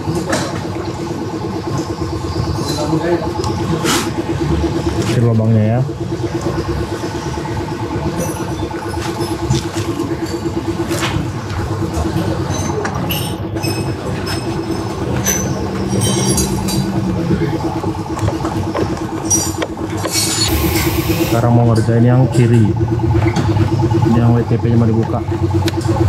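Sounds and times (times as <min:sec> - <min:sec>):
steady mechanical drone: 0:00.0 - 0:26.0.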